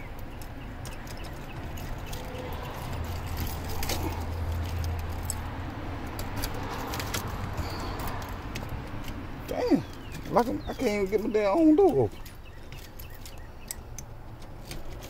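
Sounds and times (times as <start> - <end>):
keys jangling: 0.8 - 9.2, 9.9 - 15.0.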